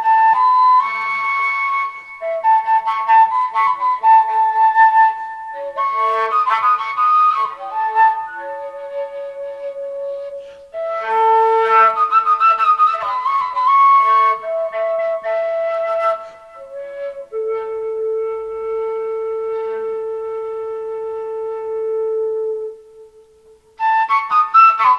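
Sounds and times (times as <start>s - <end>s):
flute playing long notes: 0.0s - 24.9s.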